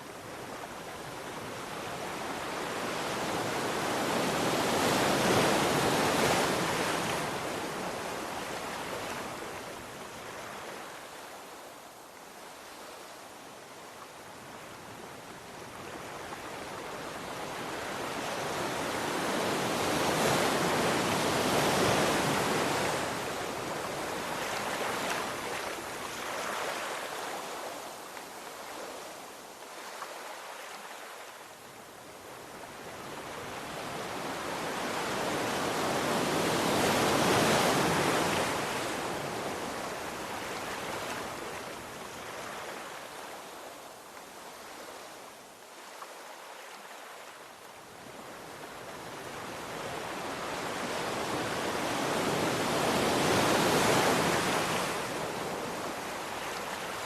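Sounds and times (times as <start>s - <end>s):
ocean waves breaking on shore: 0.0s - 11.8s, 14.0s - 57.0s.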